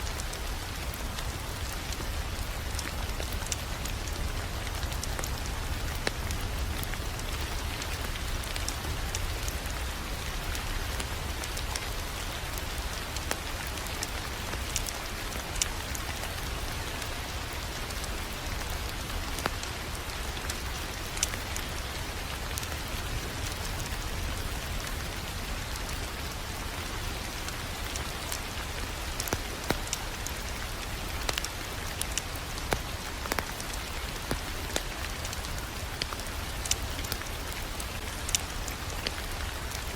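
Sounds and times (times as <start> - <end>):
fireplace fire crackling: 0.0 - 39.9
fire pops and snaps: 0.2 - 25.0, 27.3 - 39.9.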